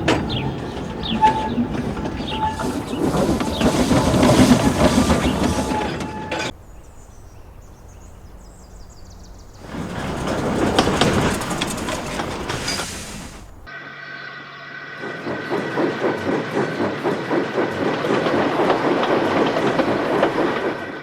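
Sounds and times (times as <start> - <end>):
steam locomotive running clatter: 0.0 - 13.7, 14.8 - 21.0.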